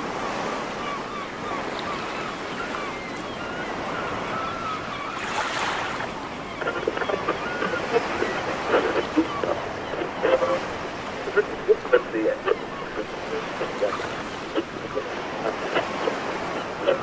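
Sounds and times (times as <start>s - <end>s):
distant seagulls calling: 0.0s - 17.0s
ocean surf washing ashore: 0.0s - 17.0s.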